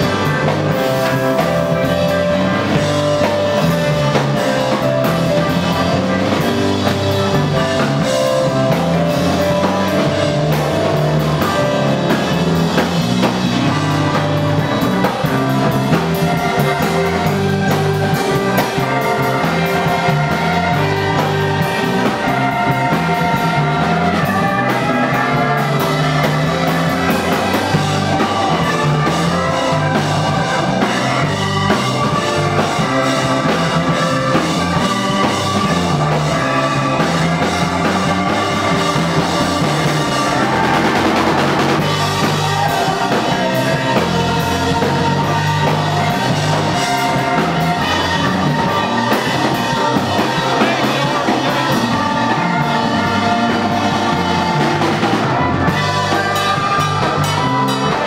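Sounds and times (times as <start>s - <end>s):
drum kit: 0.0s - 58.0s
electric bass guitar: 0.0s - 58.0s
keyboards: 0.0s - 58.0s.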